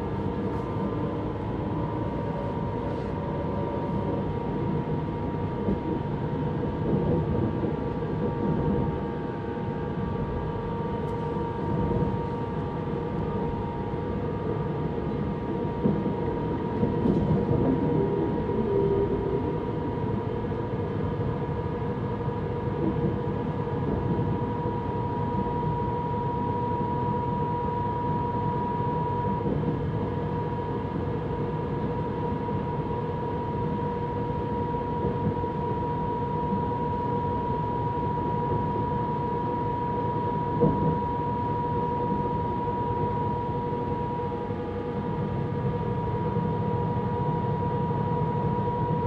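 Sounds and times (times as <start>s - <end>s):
train running noise: 0.0s - 49.0s.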